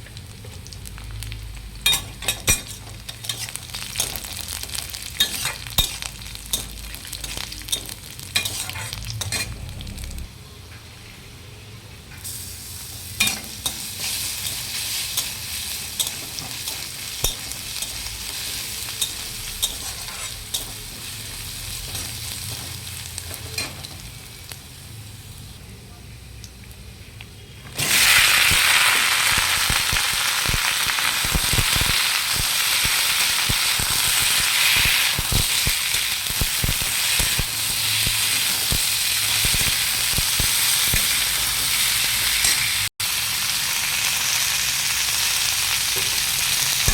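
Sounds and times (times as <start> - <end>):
food sizzling in a pan: 0.0 - 10.4, 12.2 - 25.6, 27.7 - 46.9.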